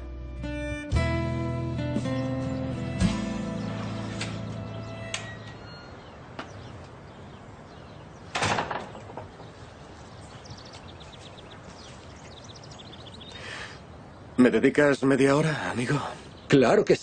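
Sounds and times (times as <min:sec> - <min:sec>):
small birds chirping: 0:01.8 - 0:17.0.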